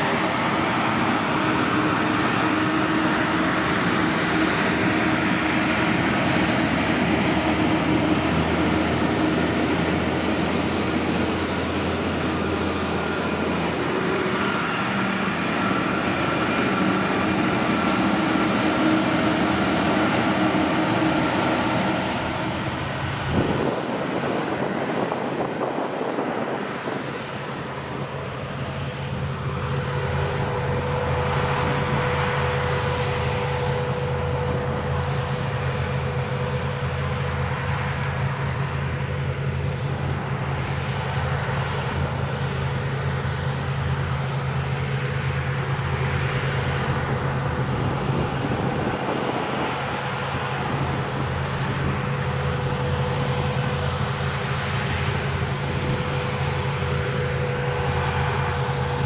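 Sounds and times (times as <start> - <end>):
combine harvester engine drone: 0.0 - 59.0
high-pitched whine: 0.0 - 59.0.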